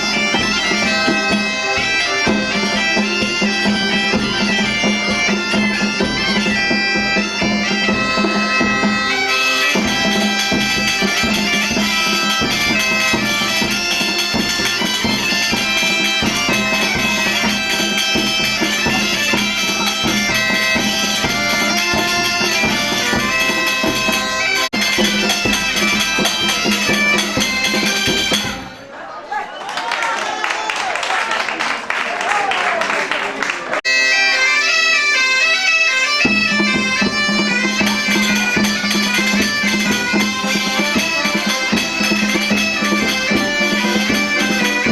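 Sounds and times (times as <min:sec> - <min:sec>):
bagpipe melody over drone: 0:00.0 - 0:28.8, 0:33.9 - 0:44.9.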